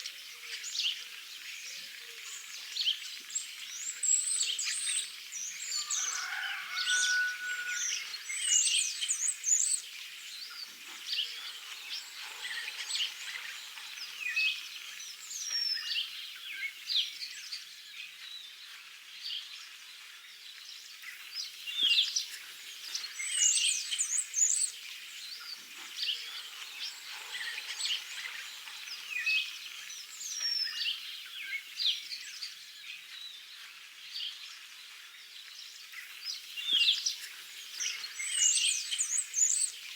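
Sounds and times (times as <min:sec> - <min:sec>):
songbirds chirping and singing: 0:00.0 - 0:18.5, 0:21.0 - 0:33.4, 0:35.4 - 0:39.9.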